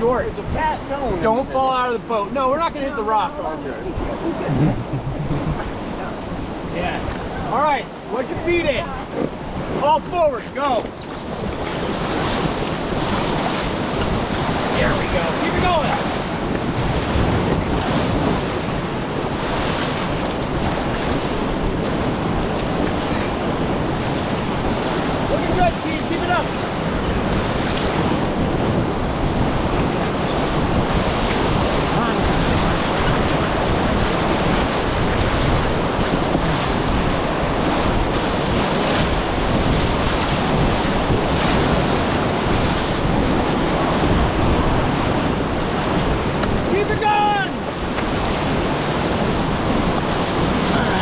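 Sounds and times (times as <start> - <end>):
whitewater rushing: 0.0 - 51.0
wind buffeting microphone: 0.0 - 51.0.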